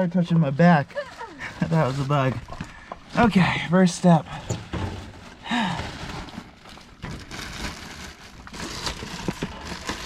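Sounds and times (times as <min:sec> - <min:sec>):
rustling and crinkling: 0:00.4 - 0:10.0.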